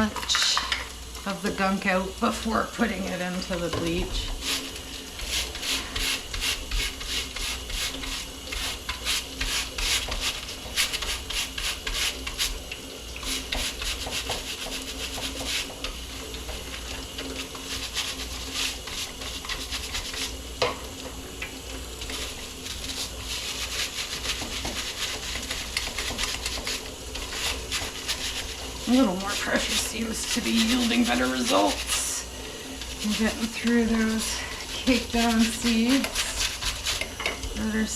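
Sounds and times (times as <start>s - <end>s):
brush scrubbing: 2.8s - 20.4s, 22.0s - 37.9s.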